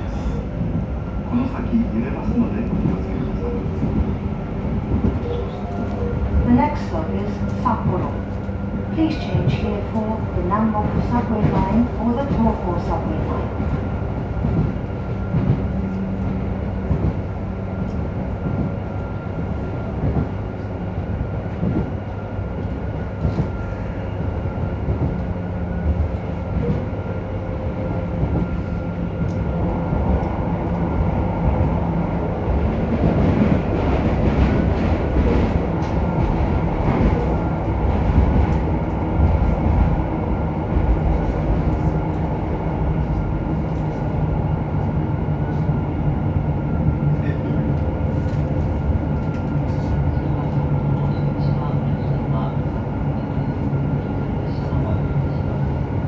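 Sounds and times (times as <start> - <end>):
train running rumble: 0.0 - 56.0.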